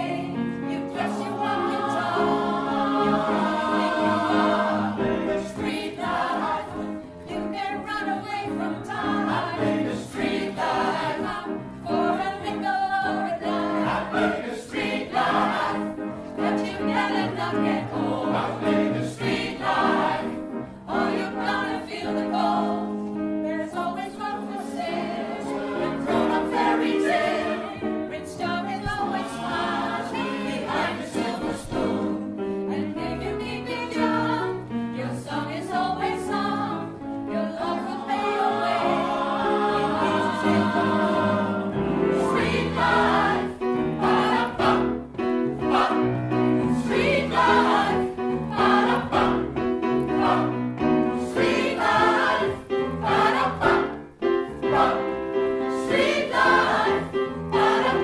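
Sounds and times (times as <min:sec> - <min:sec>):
grand piano accompaniment: 0:00.0 - 0:58.0
mixed choir singing: 0:00.0 - 0:58.0.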